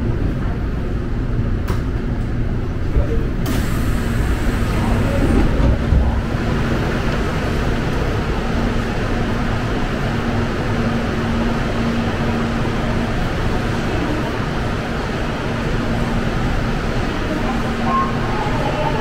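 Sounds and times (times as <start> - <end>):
subway station mechanical rumble: 0.0 - 19.0.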